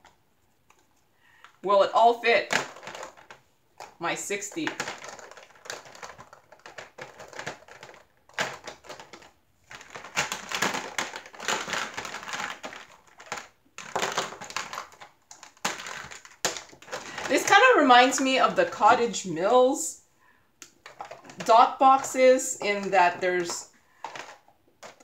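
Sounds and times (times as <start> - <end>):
plastic containers clicking: 2.2 - 19.2, 20.6 - 25.0.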